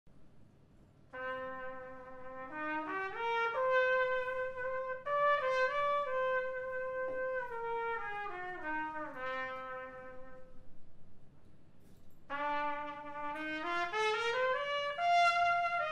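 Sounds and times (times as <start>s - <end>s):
solo trumpet playing: 1.1s - 10.8s, 12.3s - 15.9s.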